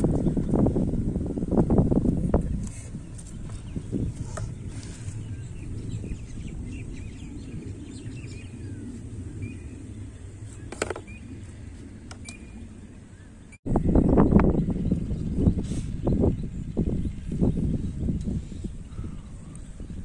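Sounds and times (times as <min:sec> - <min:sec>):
steady low rumble: 0:00.0 - 0:20.0
small birds chirping: 0:02.4 - 0:20.0.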